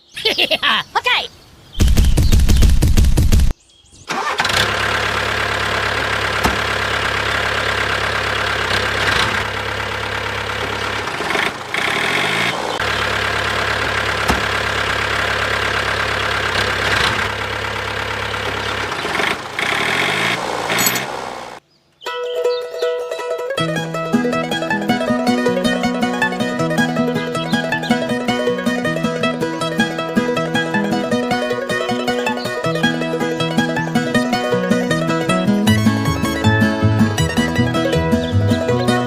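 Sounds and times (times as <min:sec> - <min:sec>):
truck engine idling: 0:04.1 - 0:21.6, 0:23.8 - 0:39.0.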